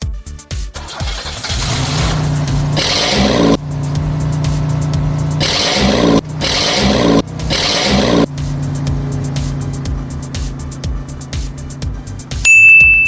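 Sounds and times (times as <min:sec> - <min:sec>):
car engine revving: 0:00.8 - 0:12.4.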